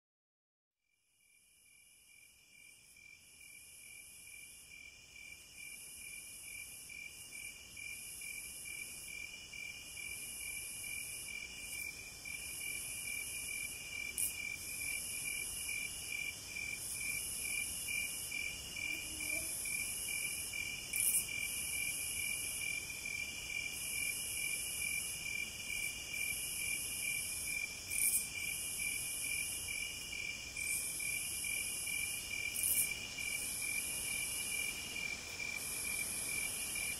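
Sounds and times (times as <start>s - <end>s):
crickets chirping steadily: 0.9s - 36.9s
insects buzzing: 2.7s - 36.9s.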